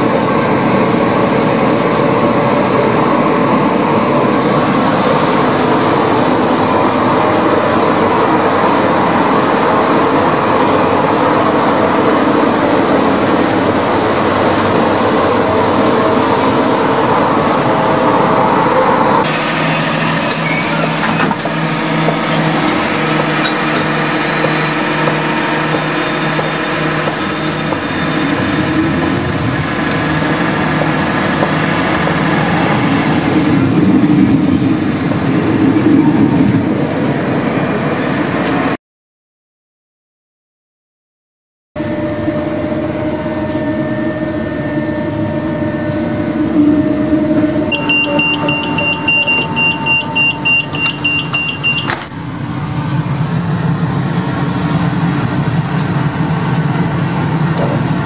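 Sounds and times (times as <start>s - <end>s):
electric train hum: 0.0s - 38.8s, 41.8s - 58.0s
train wheels rumbling on rails: 0.0s - 38.8s, 41.8s - 58.0s.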